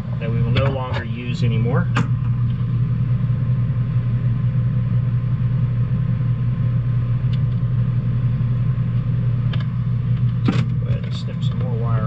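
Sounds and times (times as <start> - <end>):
loud low hum: 0.0 - 12.0.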